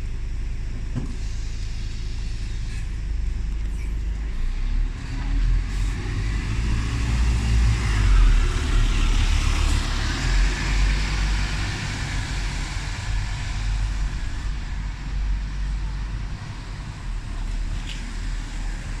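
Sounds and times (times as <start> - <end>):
bus diesel engine rumbling: 0.0 - 19.0
road noise: 0.0 - 19.0.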